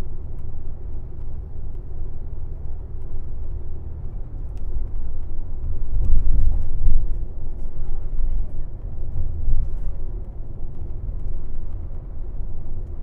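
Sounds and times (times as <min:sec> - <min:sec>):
bus engine and tyre rumble: 0:00.0 - 0:13.0.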